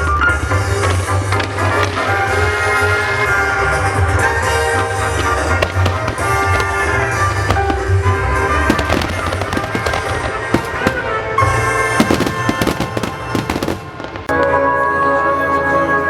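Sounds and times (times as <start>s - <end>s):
fireworks bursting and crackling: 0.0s - 14.4s
fireworks bangs: 0.0s - 14.5s
loud music: 0.1s - 14.4s.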